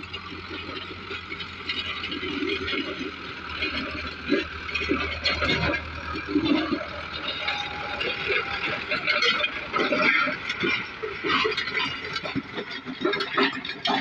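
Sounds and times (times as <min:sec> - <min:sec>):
tractor engine humming: 0:00.0 - 0:14.0.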